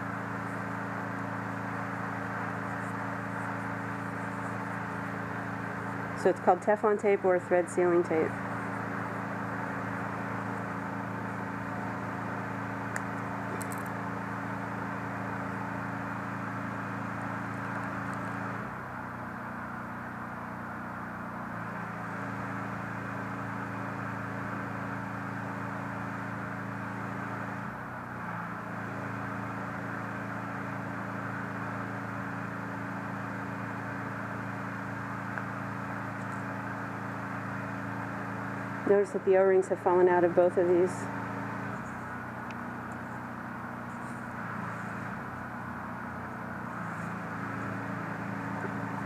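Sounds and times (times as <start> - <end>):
steady machine hum: 0.0 - 49.0.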